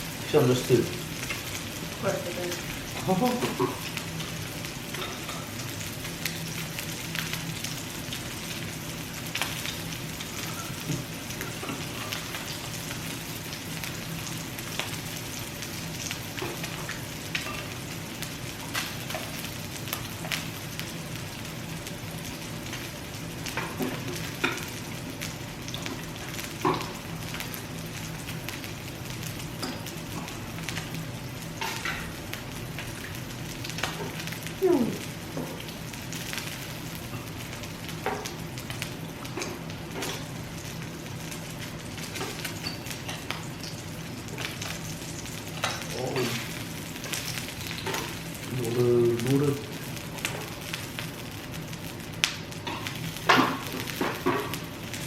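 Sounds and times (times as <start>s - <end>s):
meat sizzling on a grill: 0.0s - 55.0s.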